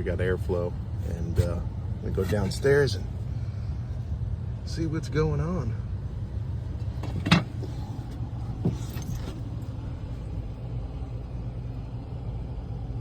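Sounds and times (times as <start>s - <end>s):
air handler blower rumbling: 0.0s - 13.0s.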